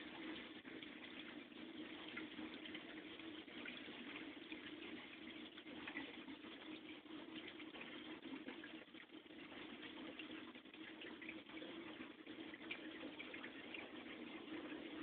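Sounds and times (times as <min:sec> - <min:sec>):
fish tank water trickling: 0:00.0 - 0:15.0.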